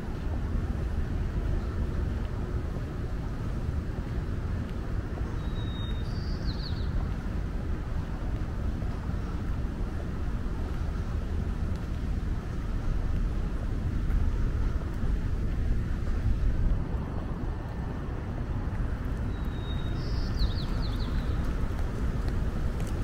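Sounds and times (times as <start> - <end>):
wind rumble: 0.0 - 23.0.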